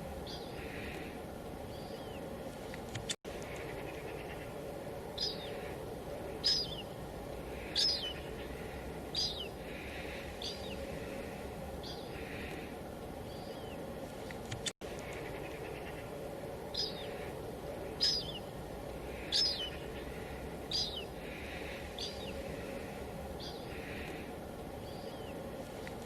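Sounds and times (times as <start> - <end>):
bird calling: 0.0 - 2.3, 3.0 - 13.9, 14.5 - 26.0
steady background noise: 0.0 - 26.0.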